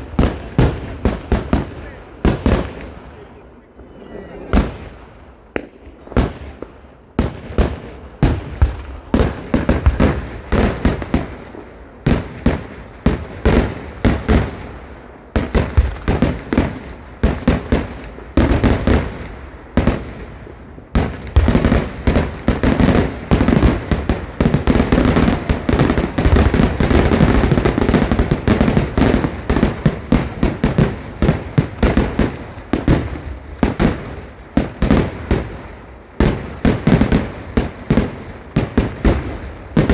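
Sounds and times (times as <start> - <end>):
firecracker bangs: 0.0 - 39.9.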